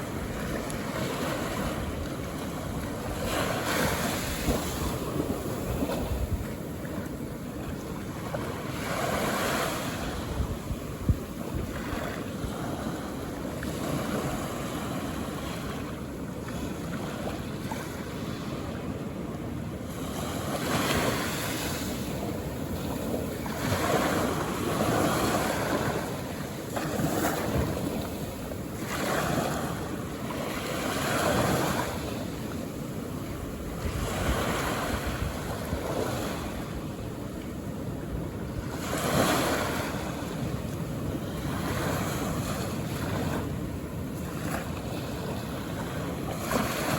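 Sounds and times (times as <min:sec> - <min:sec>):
ocean waves washing onto beach: 0:00.0 - 0:46.9
wind rumbling on microphone: 0:00.0 - 0:46.9.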